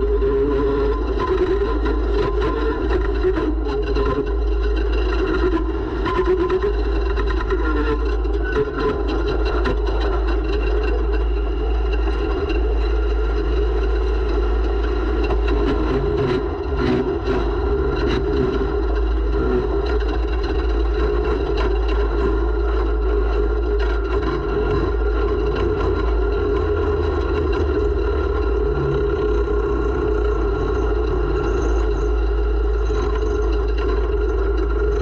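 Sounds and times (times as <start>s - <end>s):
snowmobile engine running hard: 0.0s - 35.0s.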